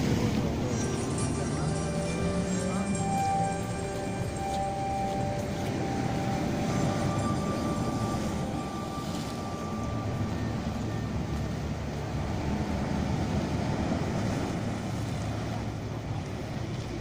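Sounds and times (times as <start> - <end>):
low drone music: 0.0 - 17.0
held high notes: 0.6 - 14.7.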